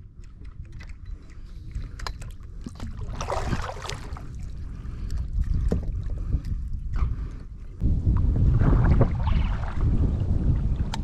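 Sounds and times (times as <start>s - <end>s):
water moving around kayak: 0.0s - 11.0s
wind buffeting microphone: 0.0s - 11.0s.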